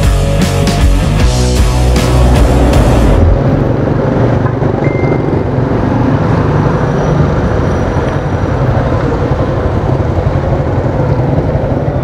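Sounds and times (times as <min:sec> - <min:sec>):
passing traffic: 0:00.0 - 0:12.0
motorcycle engine rumble: 0:00.9 - 0:12.0.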